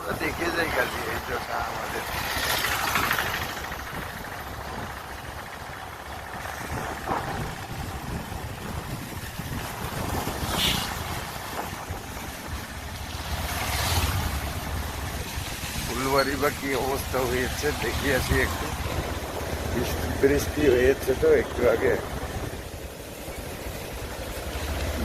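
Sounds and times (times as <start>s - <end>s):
wind rushing over microphone: 0.0s - 24.2s
motorcycle engine rumble: 0.0s - 25.0s.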